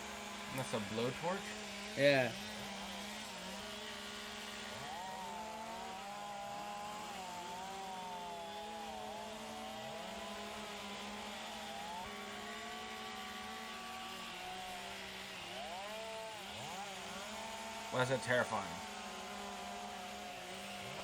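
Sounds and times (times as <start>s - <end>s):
chainsaws cutting and revving: 0.0s - 21.0s.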